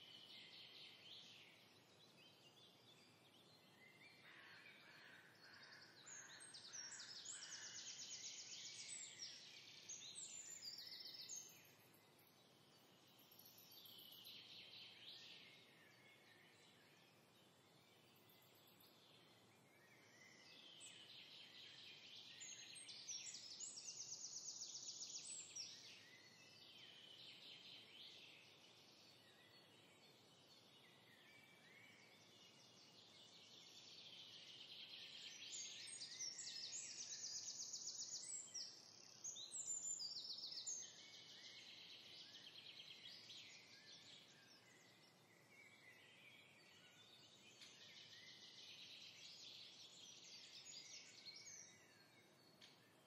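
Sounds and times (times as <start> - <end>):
songbirds chirping and warbling: 0.0 - 53.0.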